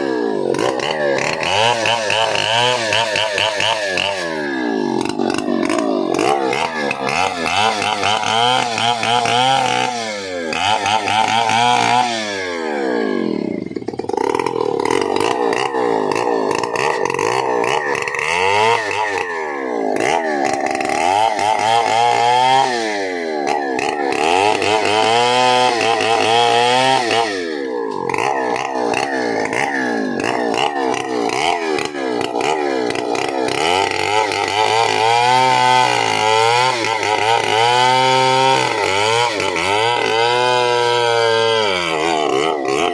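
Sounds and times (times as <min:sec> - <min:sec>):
chainsaw running at high revs: 0:00.0 - 0:42.9.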